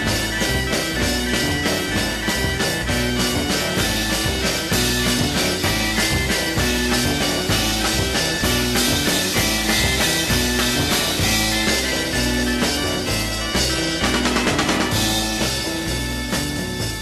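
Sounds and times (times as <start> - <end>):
psychedelic rock music: 0.0 - 17.0.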